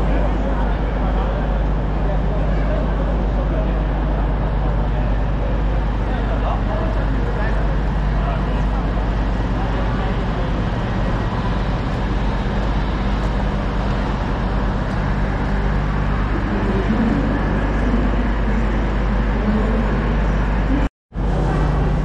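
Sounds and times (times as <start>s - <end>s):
vehicle rumble and hum: 0.0s - 22.0s.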